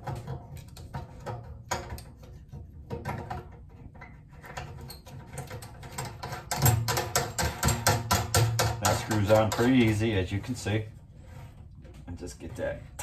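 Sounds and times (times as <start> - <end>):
drain nut clicking and scraping: 0.0 - 13.0.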